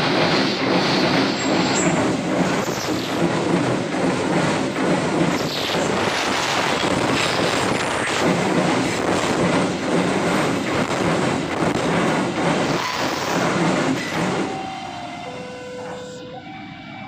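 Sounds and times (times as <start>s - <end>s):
steel wheels on rails: 0.0s - 16.2s.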